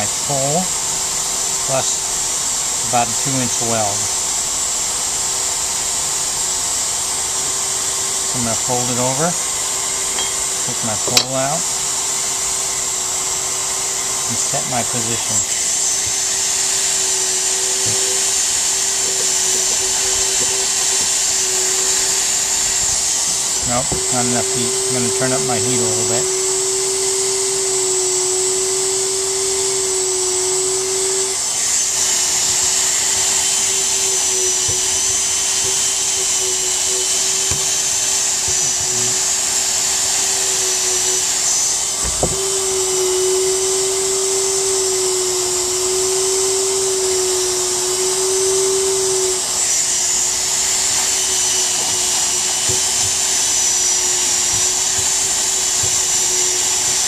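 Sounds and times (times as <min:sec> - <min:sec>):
hot air welder blower whining: 0:00.0 - 0:57.0.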